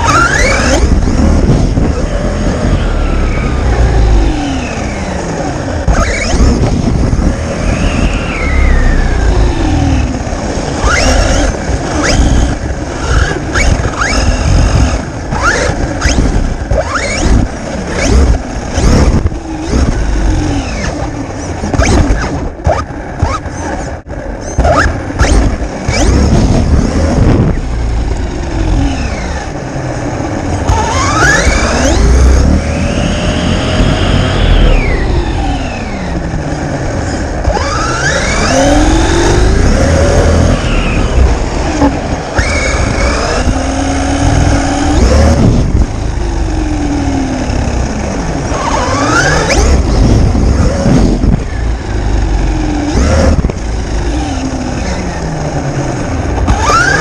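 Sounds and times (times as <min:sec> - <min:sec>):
electric motor whining: 0:00.0 - 0:23.8, 0:24.5 - 0:57.0.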